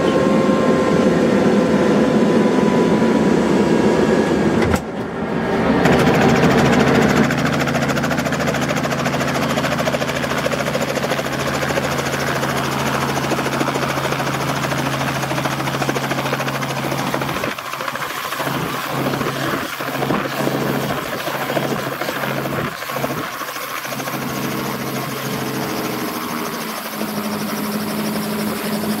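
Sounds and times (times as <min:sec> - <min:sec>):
helicopter engine and rotor: 0:00.0 - 0:29.0.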